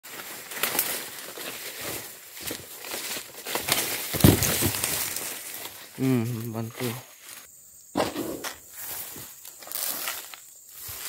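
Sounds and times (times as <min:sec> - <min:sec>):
footsteps through dry leaves: 0:00.0 - 0:07.5, 0:08.7 - 0:11.0
rustling and crackling plants: 0:00.0 - 0:07.5, 0:08.4 - 0:11.0.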